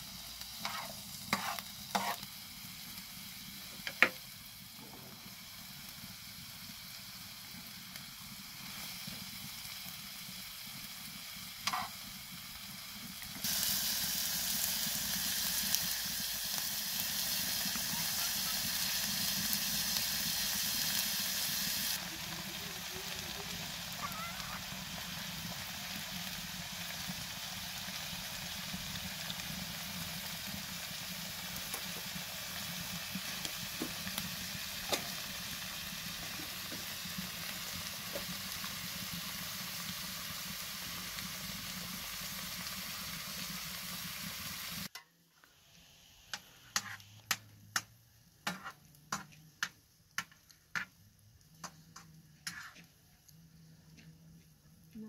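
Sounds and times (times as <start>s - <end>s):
vegetables sizzling in a pan: 0.0s - 53.7s.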